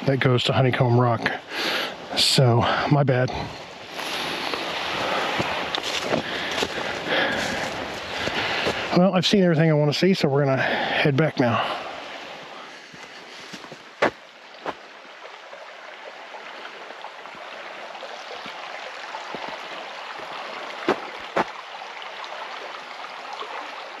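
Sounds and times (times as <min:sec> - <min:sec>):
creek water flowing over rocks: 0:00.0 - 0:24.0.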